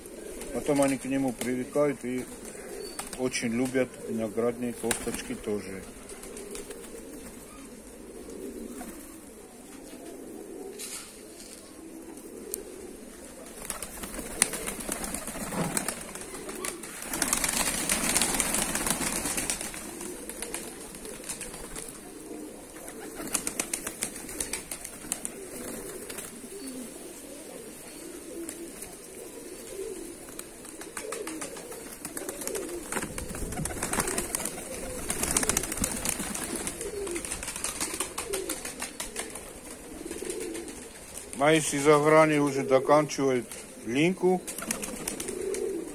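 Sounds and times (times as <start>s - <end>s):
pigeons cooing: 0.0s - 45.9s
wing flapping and scuffling: 0.1s - 26.8s, 28.3s - 42.6s, 43.3s - 45.9s.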